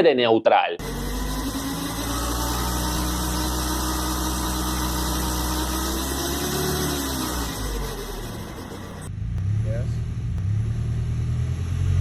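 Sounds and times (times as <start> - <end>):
car engine idling: 0.8 - 10.5
transmission whine: 0.8 - 10.5.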